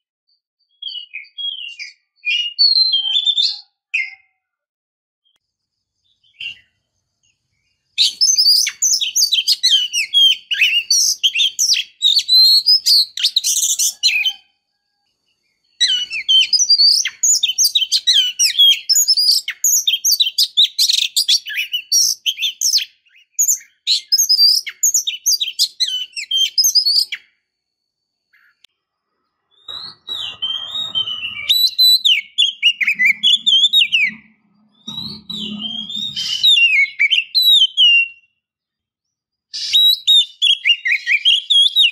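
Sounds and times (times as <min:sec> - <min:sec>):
bird singing chirps and whistles: 0:00.6 - 0:04.4, 0:06.1 - 0:14.5, 0:15.6 - 0:27.4, 0:28.3 - 0:38.4, 0:39.5 - 0:41.9.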